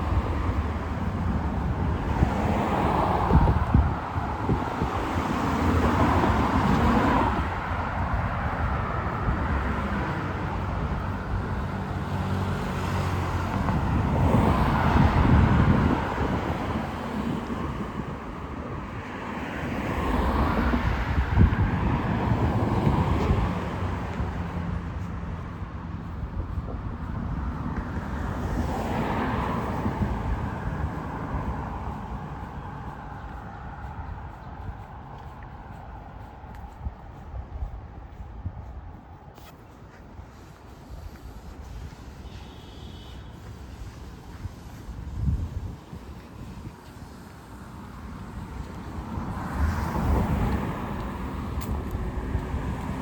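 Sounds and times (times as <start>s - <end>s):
cars passing: 0.0s - 53.0s
low engine hum: 0.0s - 53.0s
wind rumble on microphone: 0.0s - 53.0s.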